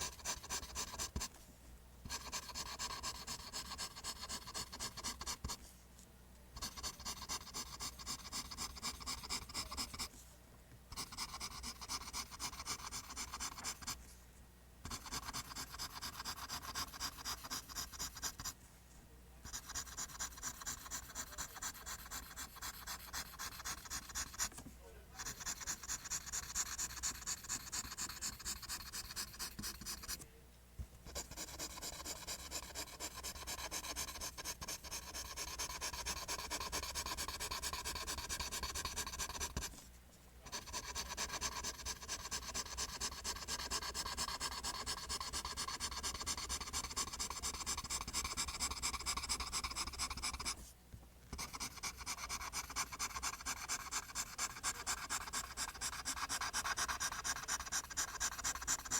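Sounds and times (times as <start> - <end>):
pencil scratching on paper: 0.0 - 1.3, 2.1 - 5.6, 6.6 - 10.1, 10.9 - 14.0, 14.9 - 18.6, 19.5 - 24.6, 25.2 - 30.2, 31.1 - 39.8, 40.4 - 50.7, 51.3 - 58.9.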